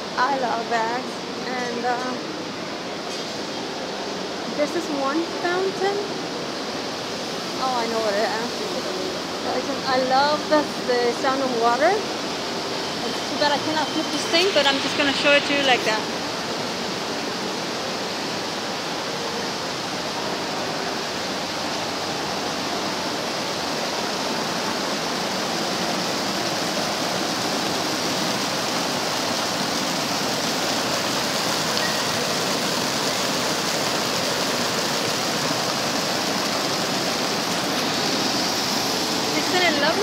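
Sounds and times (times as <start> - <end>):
fountain water splashing into basin: 0.0 - 40.0.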